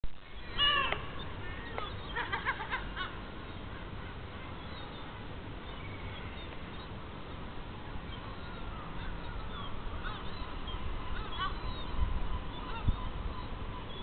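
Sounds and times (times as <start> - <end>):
steady low background noise: 0.0 - 14.0
birds calling: 0.3 - 14.0.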